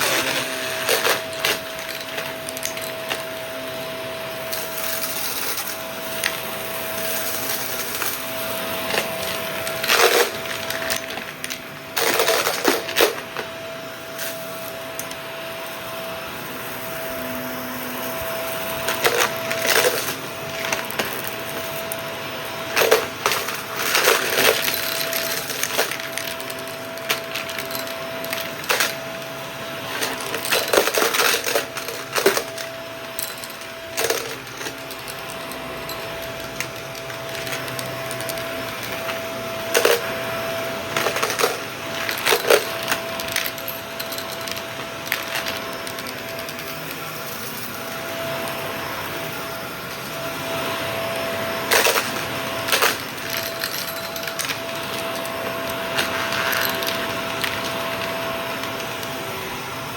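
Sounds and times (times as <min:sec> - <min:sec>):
debris rattling up nozzle: 0:00.0 - 0:03.7, 0:04.4 - 0:13.4, 0:18.5 - 0:47.0, 0:51.6 - 0:59.1
vacuum cleaner whine: 0:00.0 - 0:59.9.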